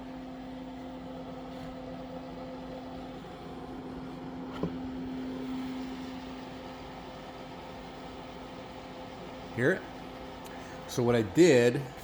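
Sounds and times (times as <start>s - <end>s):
fan noise: 0.0s - 12.0s
inverter humming: 0.0s - 12.0s.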